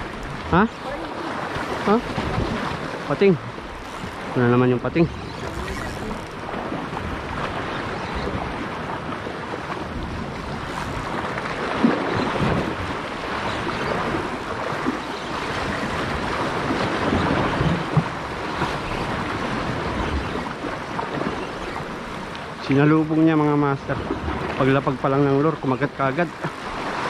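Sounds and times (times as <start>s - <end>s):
wind buffeting microphone: 0.0s - 22.6s
surf washing against rocks: 0.0s - 27.0s.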